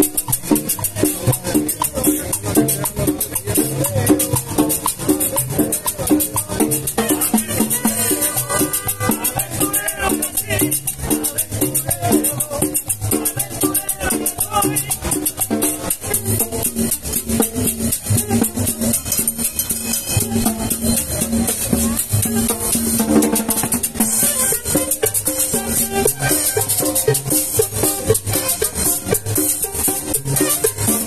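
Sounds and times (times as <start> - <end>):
congas: 0.0 - 31.0
fast shaker percussion: 0.0 - 31.0
upright bass: 0.0 - 31.0.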